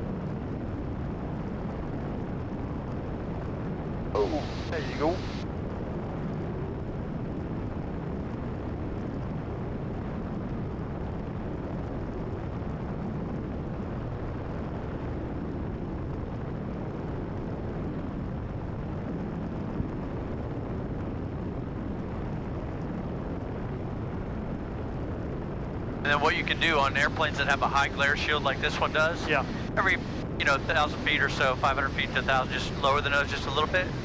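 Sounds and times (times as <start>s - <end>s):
airplane engine and propeller drone: 0.0s - 34.0s.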